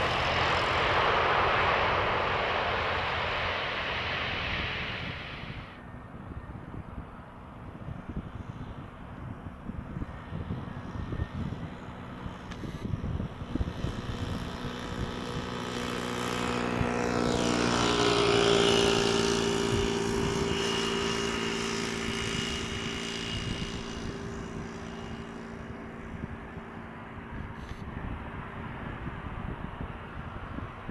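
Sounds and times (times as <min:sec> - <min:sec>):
jet engine whine: 0:00.0 - 0:30.9.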